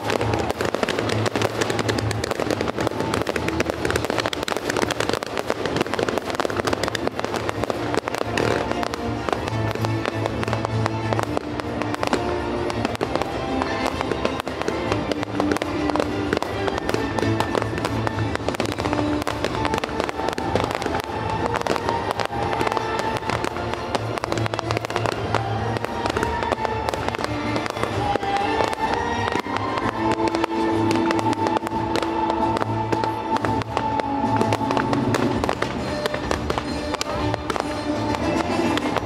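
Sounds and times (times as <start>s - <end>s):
fireworks bursting and crackling: 0.0s - 39.0s
music playing: 0.0s - 39.0s.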